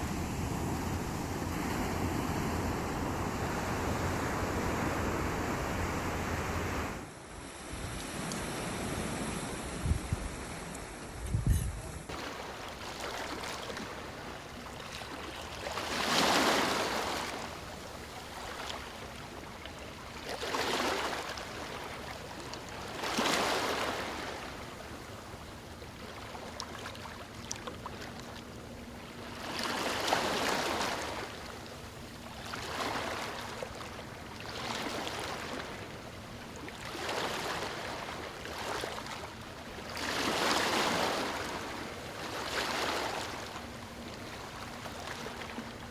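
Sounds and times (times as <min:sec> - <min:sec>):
sea waves washing up beach: 0:00.0 - 0:10.8, 0:12.1 - 0:45.9.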